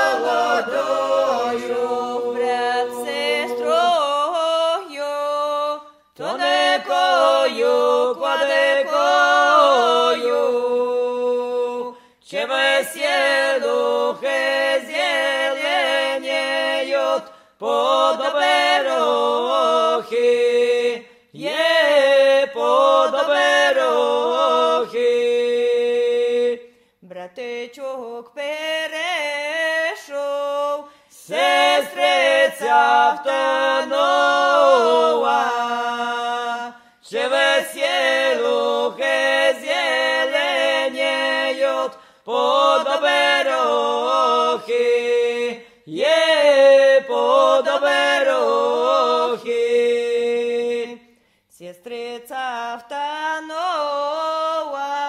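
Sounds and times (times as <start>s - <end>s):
group singing unaccompanied: 0.0s - 26.6s, 27.4s - 55.0s.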